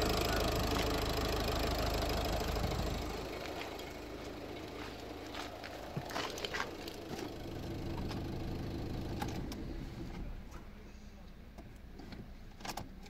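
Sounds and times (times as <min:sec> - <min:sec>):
diesel engine idling: 0:00.0 - 0:10.5.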